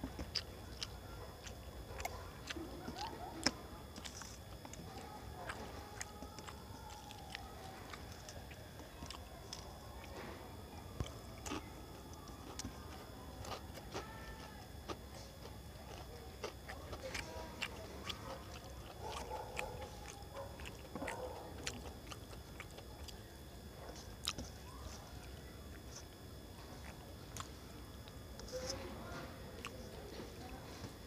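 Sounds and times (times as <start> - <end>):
man chewing and lip smacking: 0.0 - 28.8, 29.5 - 30.6.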